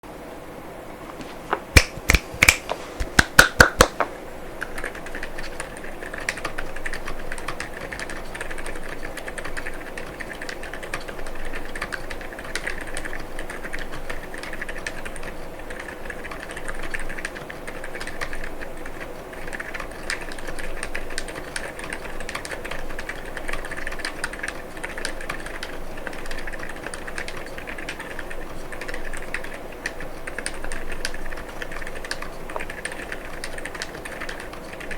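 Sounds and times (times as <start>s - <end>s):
muted keyboard typing: 1.8s - 34.9s
sharp keyboard clacks: 1.8s - 34.9s.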